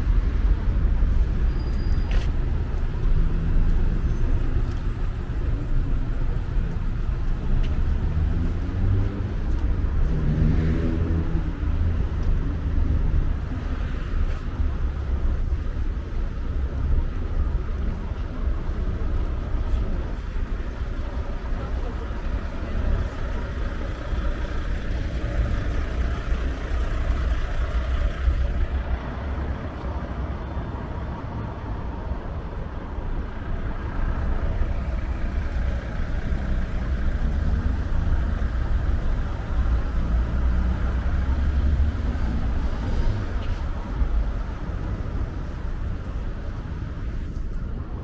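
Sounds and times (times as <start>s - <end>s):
low traffic rumble: 0.0s - 48.0s
road traffic passing: 0.0s - 48.0s.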